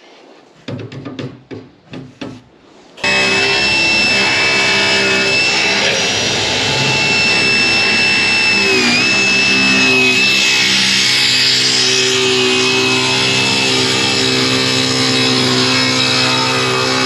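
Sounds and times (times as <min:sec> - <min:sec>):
table saw blade whine: 0:03.0 - 0:17.0.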